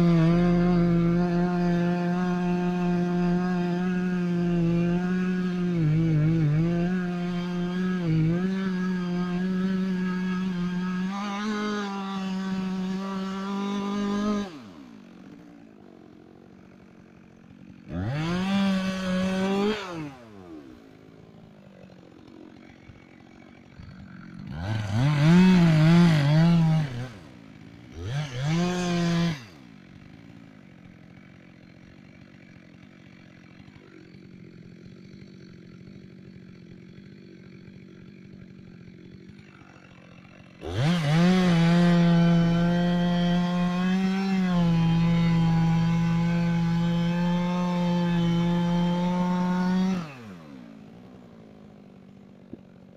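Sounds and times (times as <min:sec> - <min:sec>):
chainsaw revving: 0:00.0 - 0:52.9.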